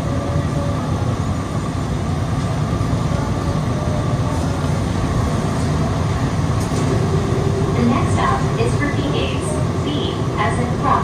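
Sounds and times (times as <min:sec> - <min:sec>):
train car rumble with hiss: 0:00.0 - 0:11.0.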